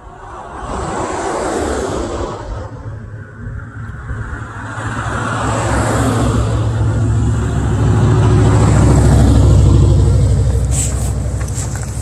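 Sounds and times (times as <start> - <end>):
vehicle engine hum approaching: 0.0 - 12.0.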